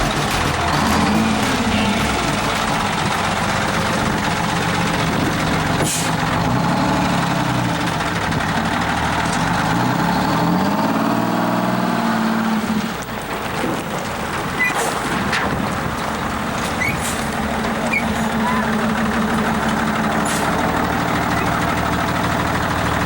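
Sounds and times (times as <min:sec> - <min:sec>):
diesel truck engine revving: 0:00.0 - 0:23.0.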